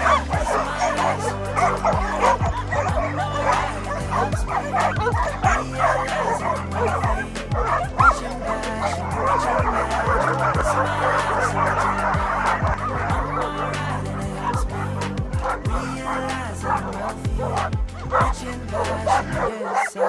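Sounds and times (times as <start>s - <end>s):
background music: 0.0s - 20.0s
dogs barking and yipping: 0.0s - 20.0s.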